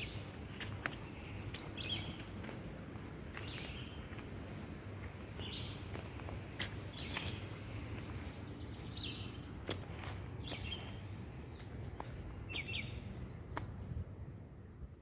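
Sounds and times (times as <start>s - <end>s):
outdoor background hiss: 0.0s - 15.0s
songbirds chirping: 0.0s - 15.0s.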